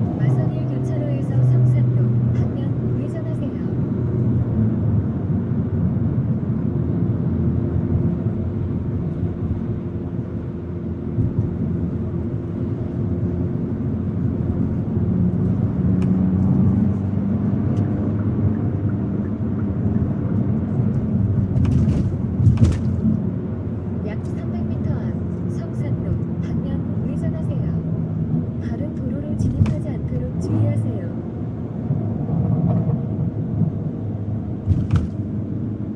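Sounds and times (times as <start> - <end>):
car engine running: 0.0 - 35.9
road noise: 0.0 - 35.9.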